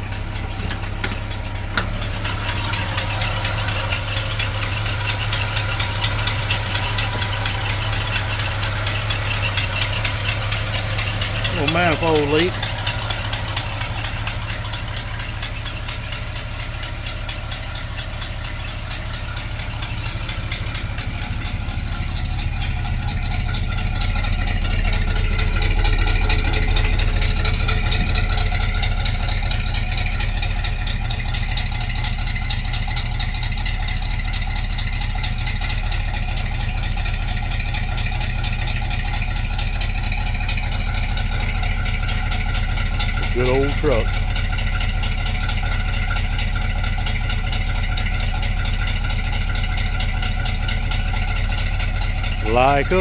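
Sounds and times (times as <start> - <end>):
pickup truck engine idling: 0.0 - 53.0.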